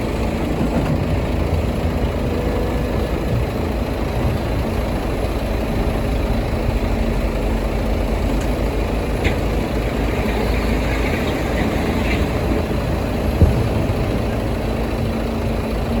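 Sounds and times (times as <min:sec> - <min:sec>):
diesel construction machinery rumbling: 0:00.0 - 0:16.0.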